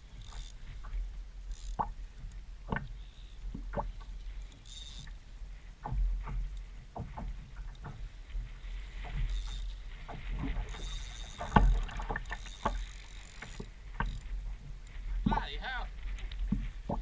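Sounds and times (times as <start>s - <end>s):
paddle splashes: 1.8s - 17.0s.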